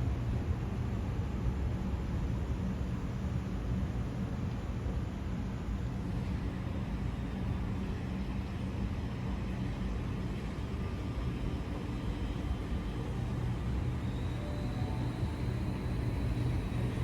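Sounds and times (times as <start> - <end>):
electric train rumble and hum: 0.0 - 17.0.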